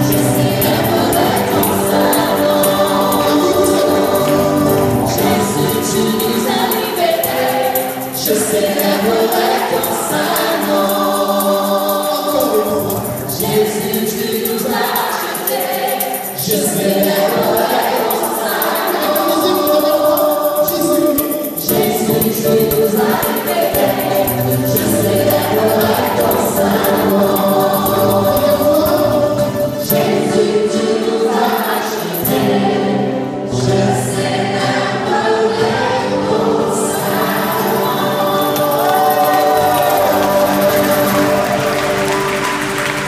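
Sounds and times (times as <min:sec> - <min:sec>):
group singing worship song: 0:00.0 - 0:43.0.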